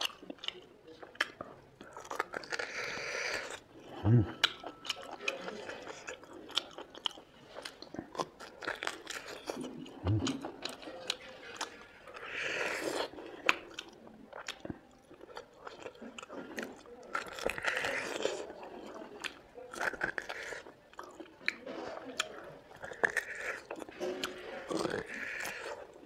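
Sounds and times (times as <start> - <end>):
chewing meat with crunching clicks: 0.0 - 26.0.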